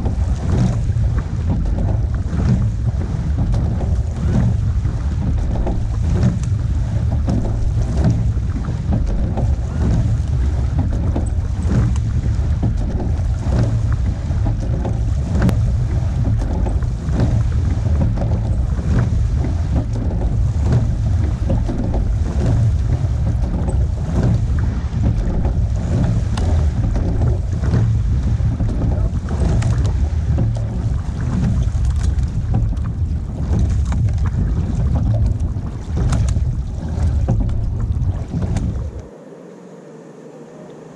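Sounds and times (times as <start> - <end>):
oars knocking and splashing: 0.0 - 39.4
water rushing along hull: 0.0 - 40.9
wind buffeting microphone: 0.0 - 40.9.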